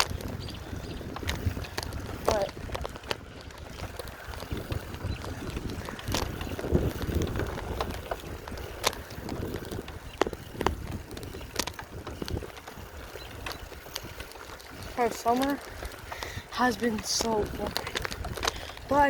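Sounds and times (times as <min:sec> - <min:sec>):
bicycle clicks and rattles: 0:00.0 - 0:19.0
wind rumbling on microphone: 0:00.0 - 0:19.0.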